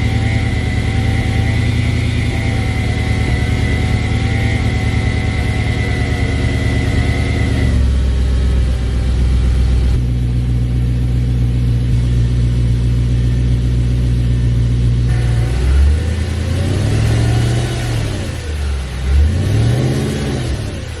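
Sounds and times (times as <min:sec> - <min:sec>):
car engine idling: 0:00.0 - 0:21.0
car engine revving: 0:00.0 - 0:21.0
high steady whine: 0:00.0 - 0:21.0.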